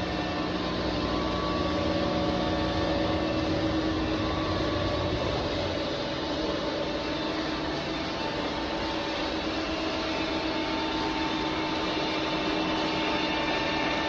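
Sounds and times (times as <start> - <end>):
machining center humming: 0.0 - 14.0.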